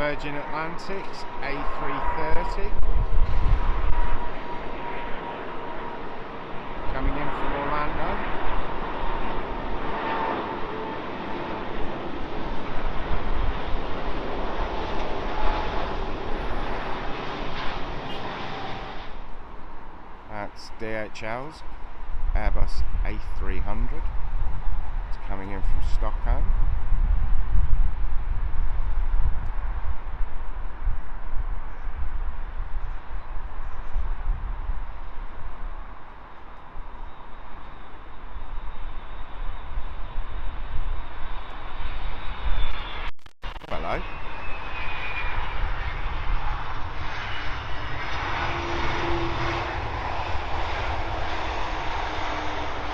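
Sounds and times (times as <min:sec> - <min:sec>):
jet engines of low-flying airliner: 0:00.0 - 0:52.9.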